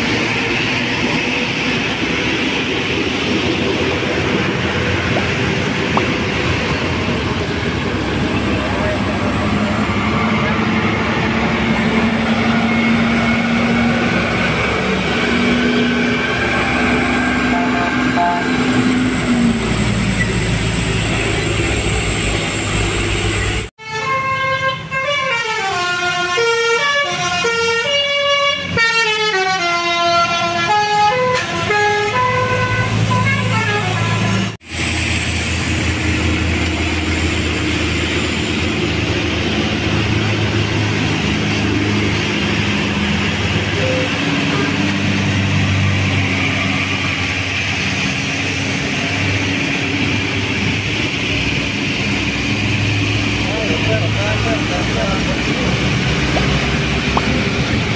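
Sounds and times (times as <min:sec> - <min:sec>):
heavy vehicle engines running: 0:00.0 - 0:57.9.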